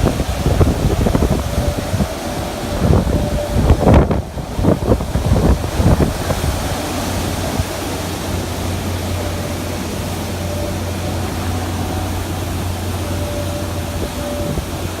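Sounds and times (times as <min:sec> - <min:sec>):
low hum: 0:00.0 - 0:15.0
strong wind rushing: 0:00.0 - 0:15.0.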